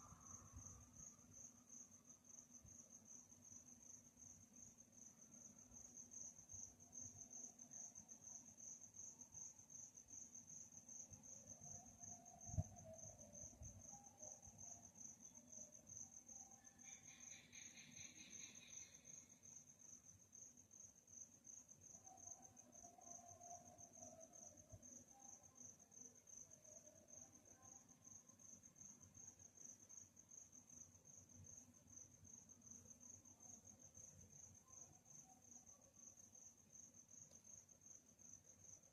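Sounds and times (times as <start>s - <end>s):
crickets chirping: 0.0s - 38.9s
lower insect trill: 0.0s - 38.9s.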